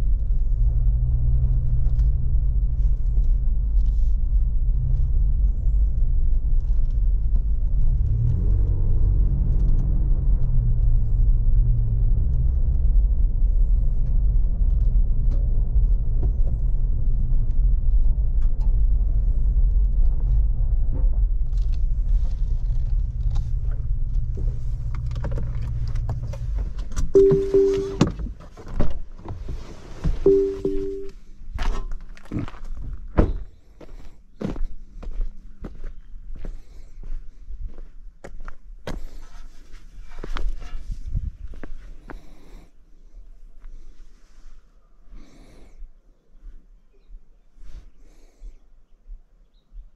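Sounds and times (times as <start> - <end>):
engine and road rumble: 0.0 - 49.9.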